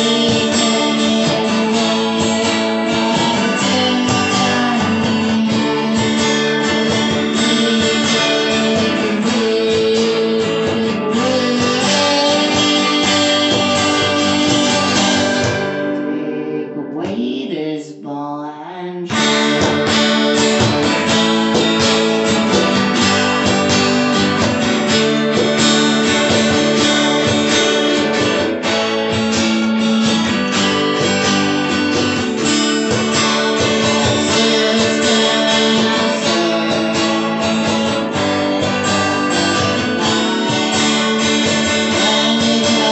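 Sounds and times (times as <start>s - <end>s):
hand drum: 0.0s - 16.3s, 19.1s - 42.9s
acoustic guitars strummed: 0.0s - 17.9s, 18.8s - 42.9s.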